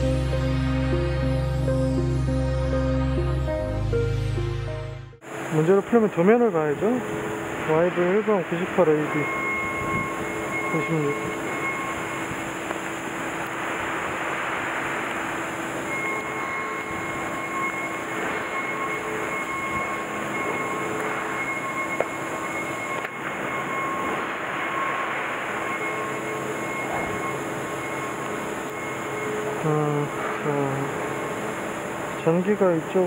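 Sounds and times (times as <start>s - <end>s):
industrial machinery hum and hiss: 5.2s - 33.0s
faint whining tones: 5.3s - 33.0s.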